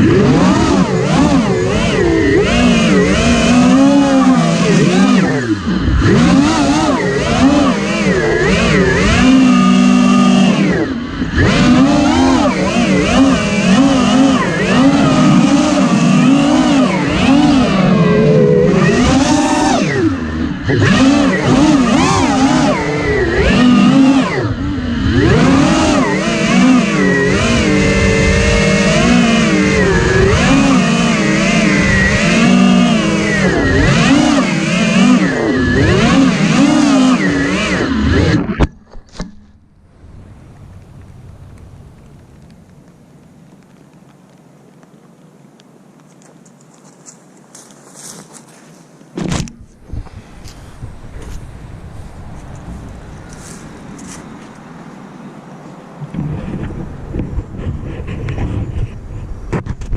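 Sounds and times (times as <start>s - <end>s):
drone motors whining: 0.0s - 44.4s, 49.2s - 59.6s.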